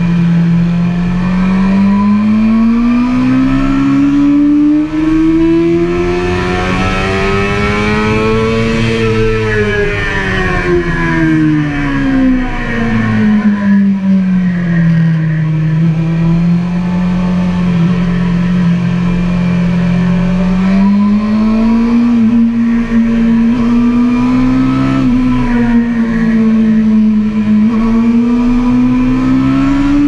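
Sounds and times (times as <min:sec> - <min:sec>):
motorcycle engine under load: 0:00.0 - 0:30.0.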